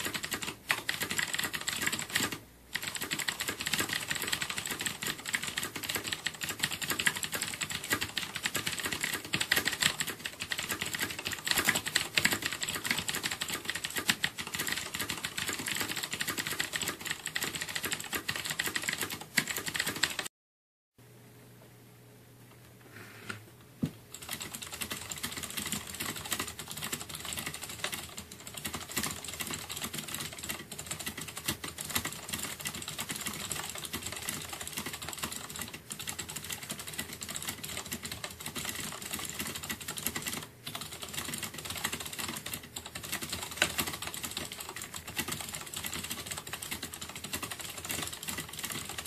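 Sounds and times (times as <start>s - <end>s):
fast typing on mechanical keyboard: 0.0s - 20.3s, 24.1s - 49.0s.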